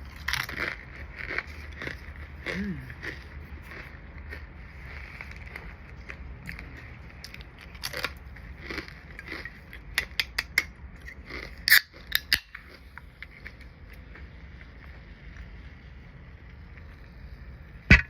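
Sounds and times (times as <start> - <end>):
crunchy crackers being chewed: 0.0 - 17.6.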